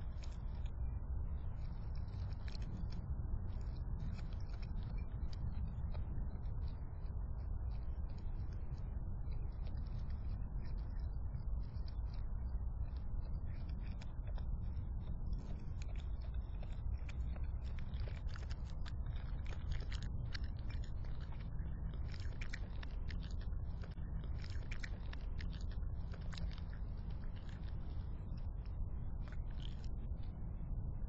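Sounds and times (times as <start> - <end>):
raccoon chewing and crunching: 0.0 - 31.0
steady low hum: 0.0 - 31.0.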